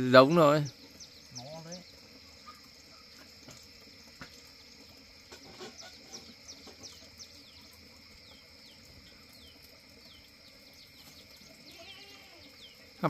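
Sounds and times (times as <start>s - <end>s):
high insect drone: 0.0s - 13.0s
small birds chirping: 0.0s - 13.0s.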